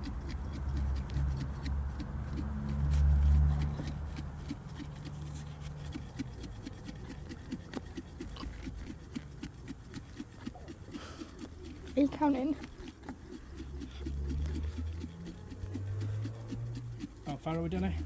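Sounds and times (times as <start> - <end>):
jar rattling as it is shaken: 0.0 - 18.0.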